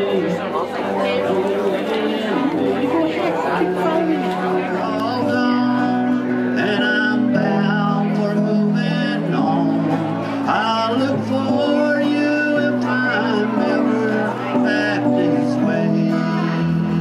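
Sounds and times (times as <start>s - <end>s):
acoustic guitar: 0.0s - 17.0s
person singing: 0.0s - 17.0s.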